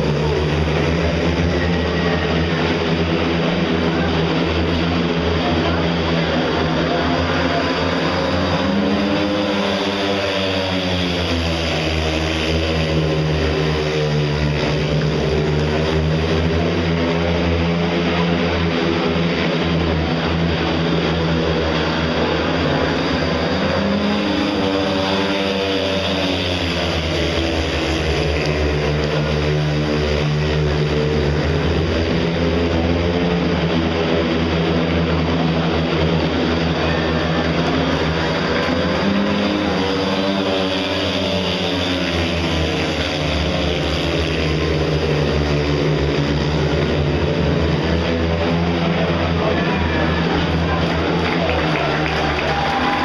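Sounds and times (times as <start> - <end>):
motorcycle engines revving hard: 0.0 - 53.0.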